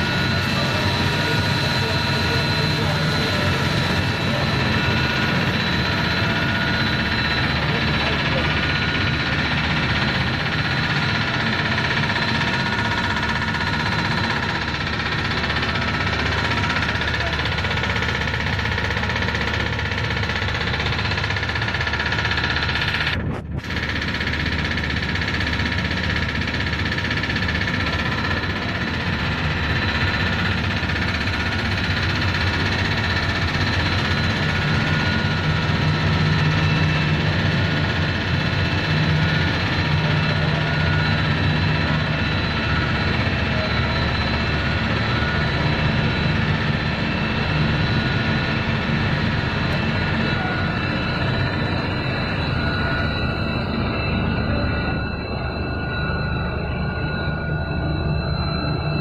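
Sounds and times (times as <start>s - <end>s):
production line machinery hum: 0.0s - 59.0s
steady machine tones: 0.0s - 59.0s.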